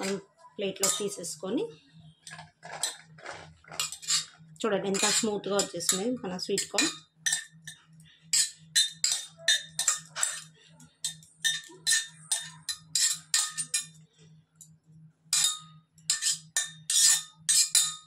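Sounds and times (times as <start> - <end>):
spoon scraping metal pot: 0.0 - 1.4, 2.2 - 14.0, 15.3 - 18.0.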